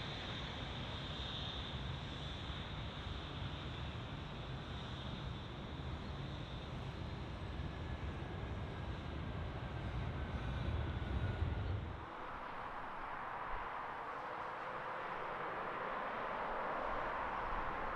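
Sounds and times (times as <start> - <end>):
jet engines rumbling and whining: 0.0 - 17.9.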